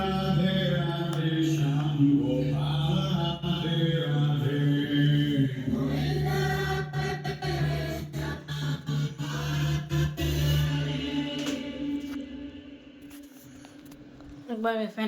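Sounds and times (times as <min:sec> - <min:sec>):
low bass drone: 0:00.0 - 0:13.1
chant-like sung vocals: 0:00.0 - 0:13.4.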